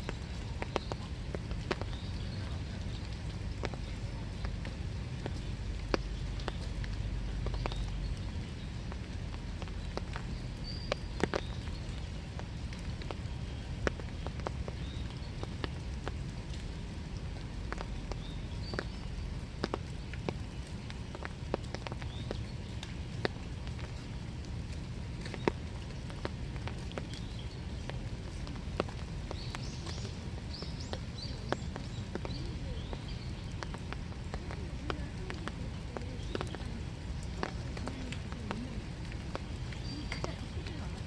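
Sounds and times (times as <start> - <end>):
rain falling steadily: 0.0 - 41.0
raindrops ticking close by: 0.0 - 41.0.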